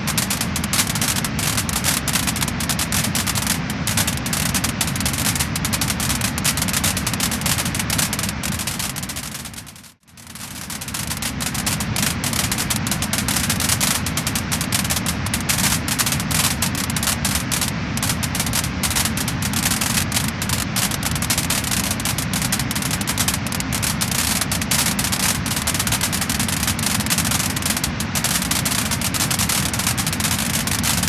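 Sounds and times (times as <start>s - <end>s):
flames rushing: 0.0s - 31.0s
wood fire crackling and popping: 0.0s - 31.0s.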